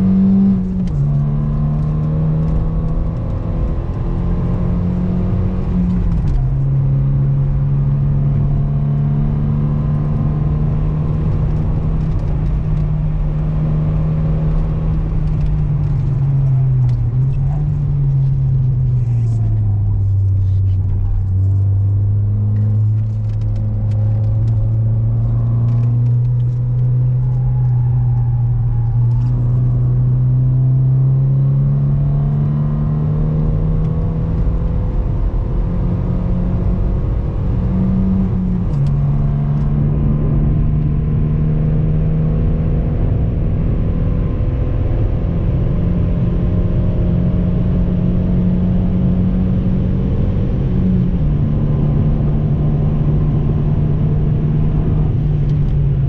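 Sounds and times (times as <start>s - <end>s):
car engine: 0.0s - 56.0s
road noise: 0.0s - 56.0s.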